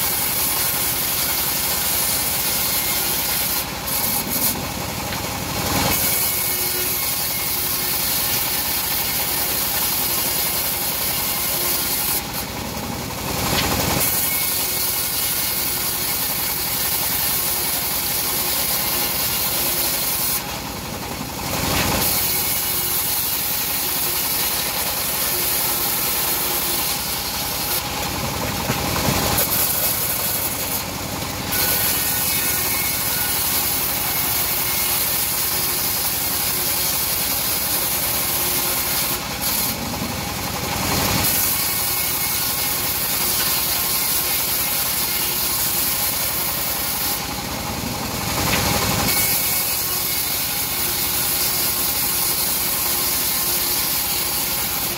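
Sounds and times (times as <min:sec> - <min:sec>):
saw blade cutting wood: 0:00.0 - 0:54.9
sawmill machine running: 0:00.0 - 0:54.9.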